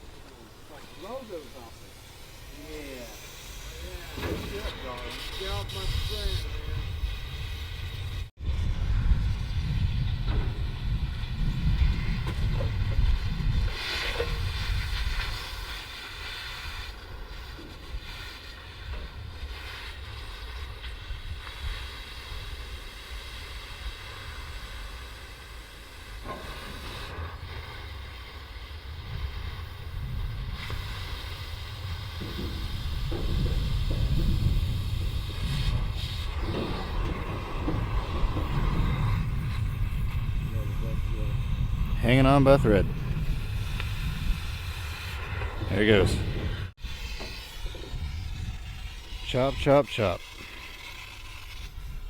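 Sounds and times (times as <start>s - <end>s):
wind rumbling on microphone: 0.0s - 24.9s, 28.9s - 49.7s.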